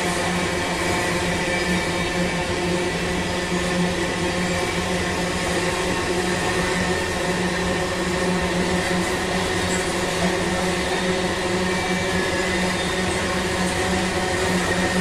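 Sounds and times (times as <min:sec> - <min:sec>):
freight train rushing: 0:00.0 - 0:15.0.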